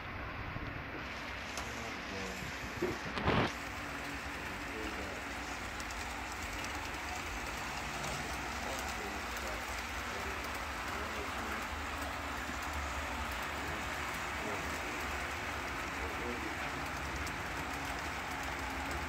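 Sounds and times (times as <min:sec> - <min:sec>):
model locomotive running: 0:01.0 - 0:19.0.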